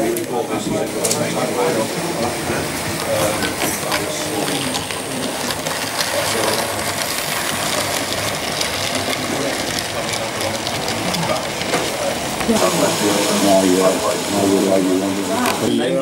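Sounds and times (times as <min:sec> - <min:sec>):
model train wheels clicking: 0:00.0 - 0:15.7.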